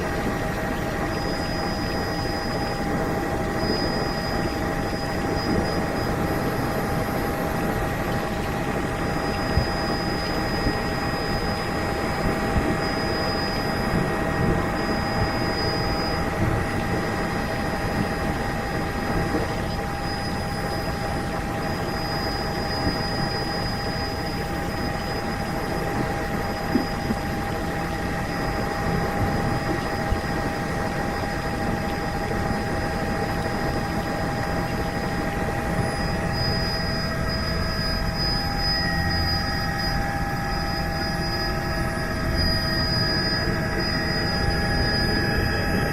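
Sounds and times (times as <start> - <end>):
helicopter rotor and engine: 0.0 - 45.9.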